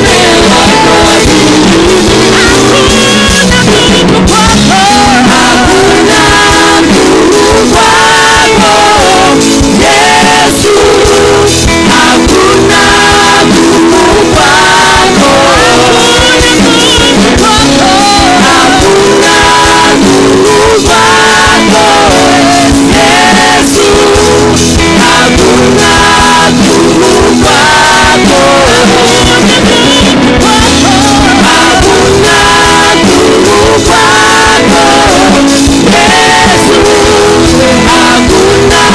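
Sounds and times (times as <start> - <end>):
band with guitar and beat: 0.0 - 38.9
voices singing worship music: 0.0 - 38.9.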